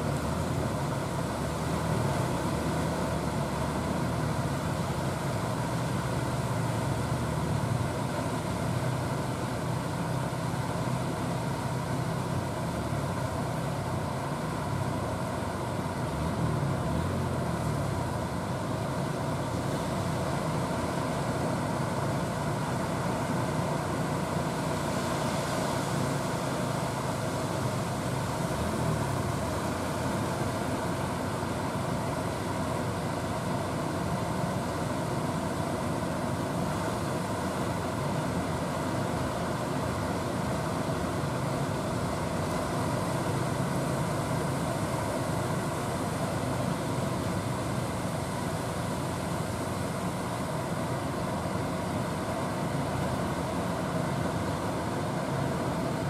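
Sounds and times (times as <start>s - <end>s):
fast-flowing river water: 0.0s - 56.0s
small boat engine running: 0.0s - 56.0s.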